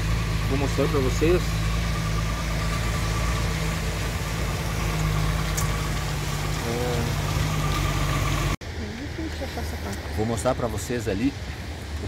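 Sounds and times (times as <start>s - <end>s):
engine-like drone: 0.0s - 12.0s.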